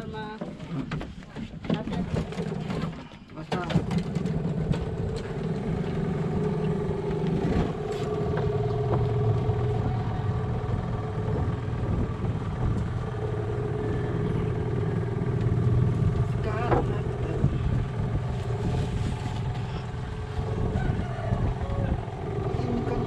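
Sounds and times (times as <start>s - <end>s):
small engine running: 3.8s - 23.0s.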